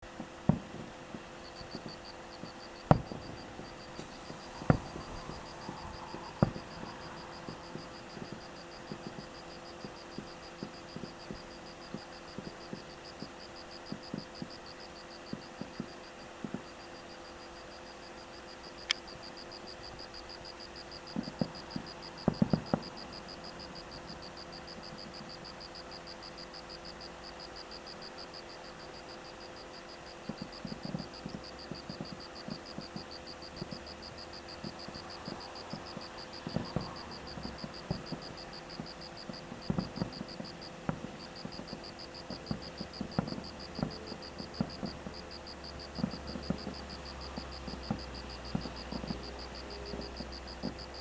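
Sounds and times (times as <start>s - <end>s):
distant fireworks booming: 0.0s - 51.0s.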